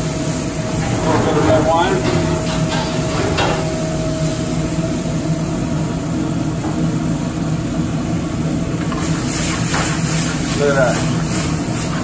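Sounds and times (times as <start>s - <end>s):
kitchen burners and ventilation hum: 0.0s - 12.0s.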